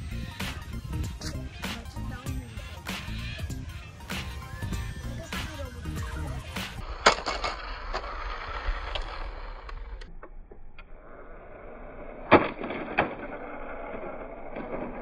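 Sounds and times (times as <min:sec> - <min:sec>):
toy car motors whirring: 0:00.0 - 0:10.1, 0:12.3 - 0:15.0.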